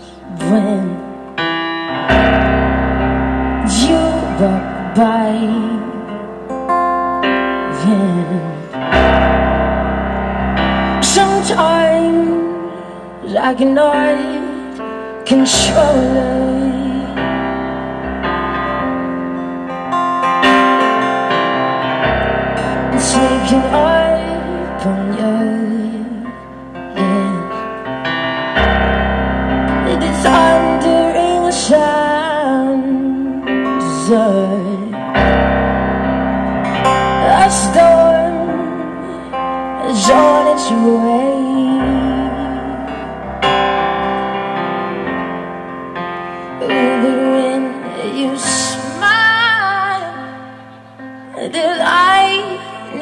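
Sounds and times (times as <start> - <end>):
woman singing a ballad: 0.0 - 21.6, 22.6 - 28.8, 29.7 - 35.7, 36.7 - 44.4, 45.9 - 53.0
piano chords: 0.0 - 53.0.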